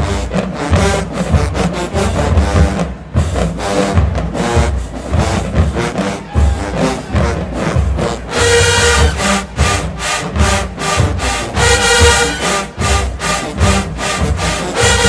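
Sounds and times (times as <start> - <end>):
marching band brass: 0.0 - 15.0.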